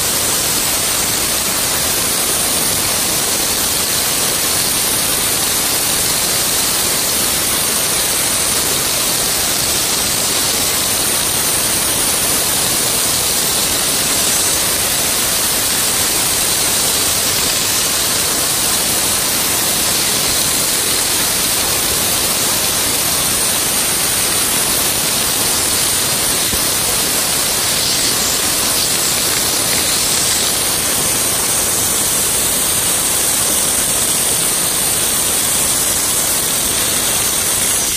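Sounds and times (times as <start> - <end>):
ice blasting gun hissing: 0.0 - 37.9.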